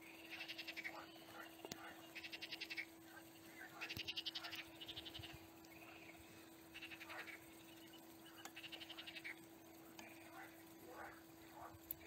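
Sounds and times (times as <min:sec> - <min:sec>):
faint steady hum: 0:00.0 - 0:12.0
frogs croaking: 0:00.0 - 0:12.0.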